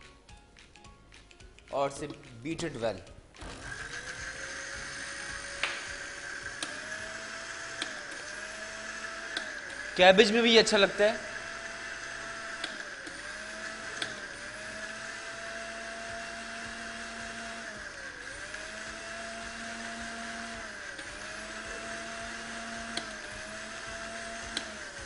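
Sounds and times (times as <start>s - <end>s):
electric blender motor grinding: 3.4s - 25.0s.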